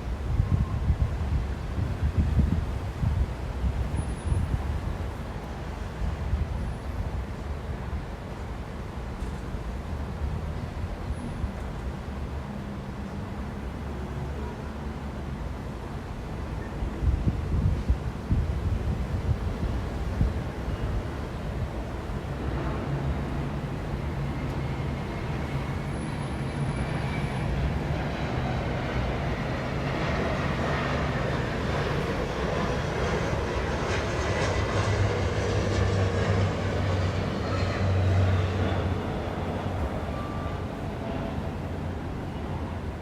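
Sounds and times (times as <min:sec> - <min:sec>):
street traffic rush: 0:00.0 - 0:43.0.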